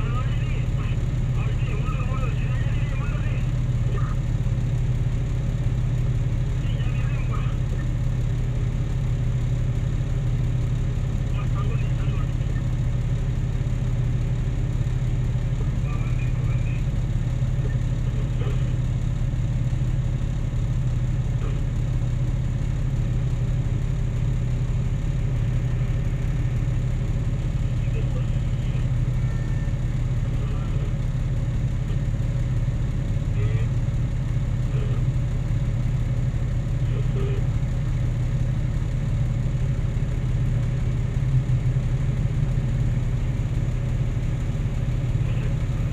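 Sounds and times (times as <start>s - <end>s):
heavy diesel engines droning: 0.0s - 45.9s.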